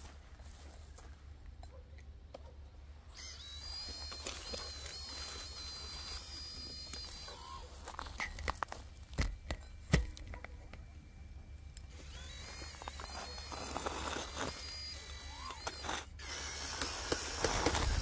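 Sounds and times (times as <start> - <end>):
electric motors whining: 2.7 - 18.0.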